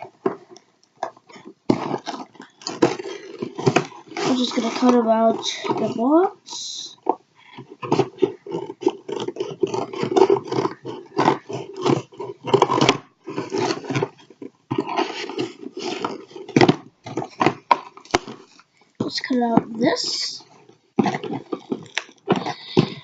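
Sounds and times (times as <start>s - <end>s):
cardboard being cut and torn: 1.3s - 6.0s, 7.6s - 18.6s, 19.3s - 23.0s.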